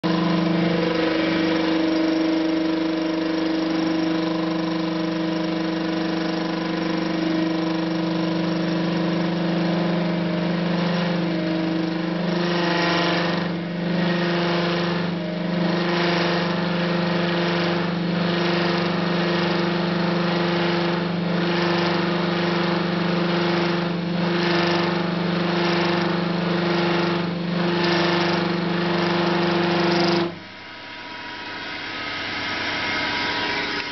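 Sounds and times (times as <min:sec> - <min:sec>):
lathe machine hum: 0:00.0 - 0:33.9.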